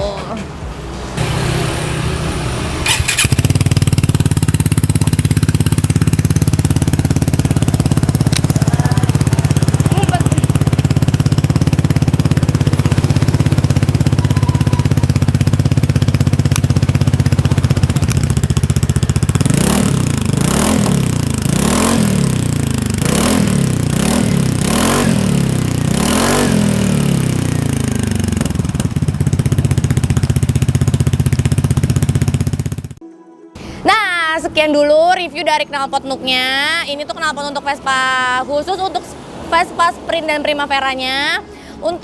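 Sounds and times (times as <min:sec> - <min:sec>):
scooter engine idling and revving: 0:00.0 - 0:33.0, 0:33.6 - 0:35.2.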